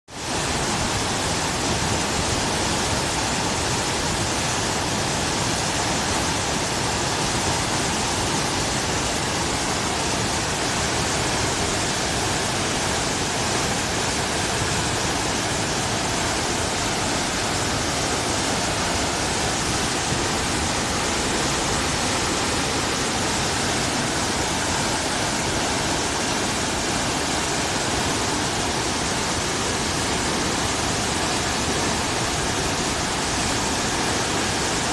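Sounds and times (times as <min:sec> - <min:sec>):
swollen river rushing: 0:00.1 - 0:34.9.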